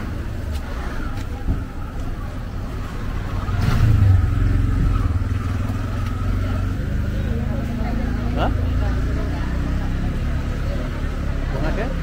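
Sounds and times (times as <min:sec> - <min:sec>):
vehicle engine passing by: 0:02.2 - 0:12.0.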